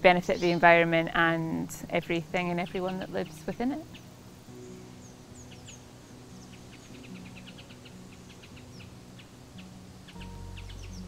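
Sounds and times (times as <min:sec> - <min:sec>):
soft background music: 0:00.0 - 0:11.0
songbirds chirping: 0:00.0 - 0:11.0.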